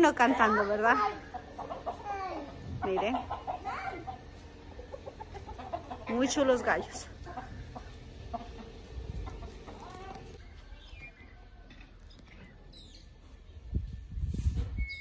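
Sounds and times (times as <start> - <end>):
roosters clucking and calling: 0.0 - 13.8.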